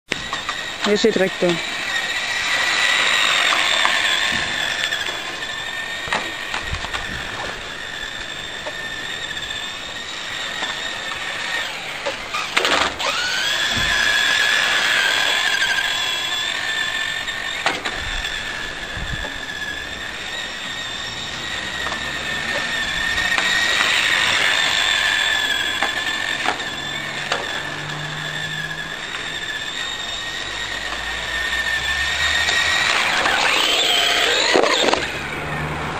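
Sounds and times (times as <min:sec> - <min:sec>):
rc car motor whining: 0:00.1 - 0:35.9.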